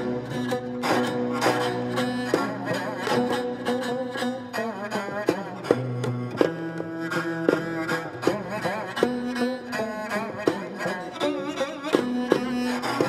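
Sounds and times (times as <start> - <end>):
bowed string melody: 0.0 - 13.0
plucked string notes: 0.0 - 13.0
sharp percussive strokes: 0.0 - 13.0.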